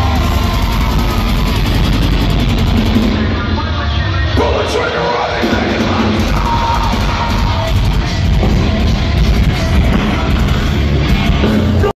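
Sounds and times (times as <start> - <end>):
heavy metal band playing: 0.0 - 11.9.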